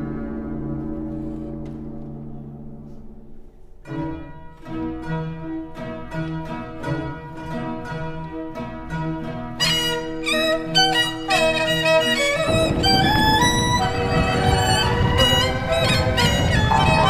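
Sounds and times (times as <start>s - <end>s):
bowed strings: 0.0s - 17.0s
plucked string notes: 0.0s - 17.0s.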